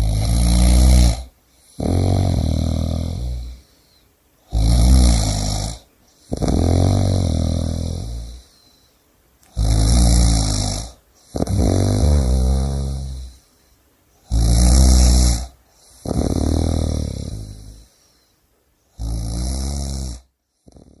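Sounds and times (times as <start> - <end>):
person snoring: 0.0 - 13.5, 14.2 - 18.3, 18.9 - 21.0.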